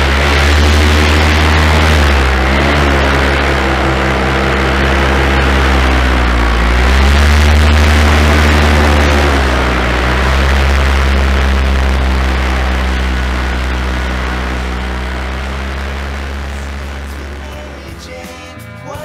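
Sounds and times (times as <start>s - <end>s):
paramotor engine and propeller: 0.0s - 18.5s.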